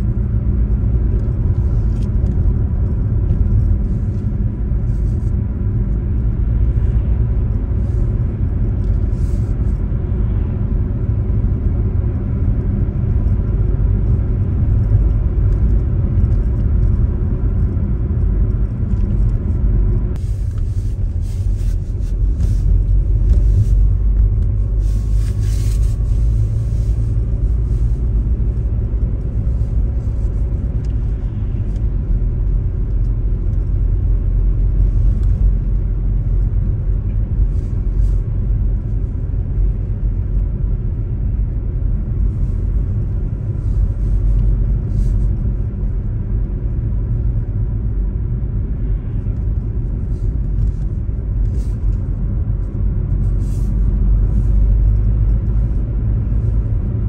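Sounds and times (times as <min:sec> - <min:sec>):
car cabin rumble: 0:00.0 - 0:57.0.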